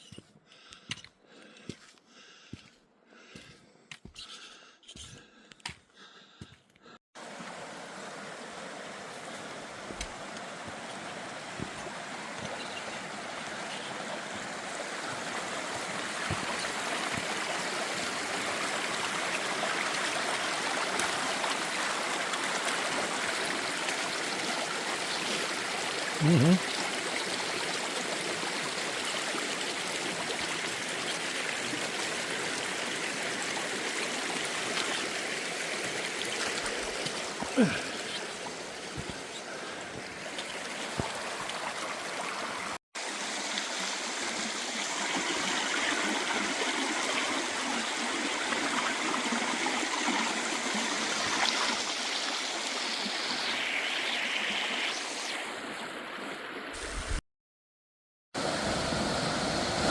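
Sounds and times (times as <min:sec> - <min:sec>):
mountain stream rushing: 0:07.2 - 0:57.2, 0:58.4 - 0:59.9.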